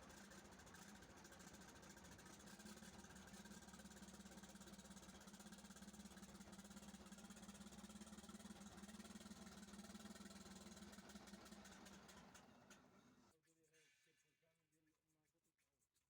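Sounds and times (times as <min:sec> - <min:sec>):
engine idling with rattle: 0:00.0 - 0:13.3.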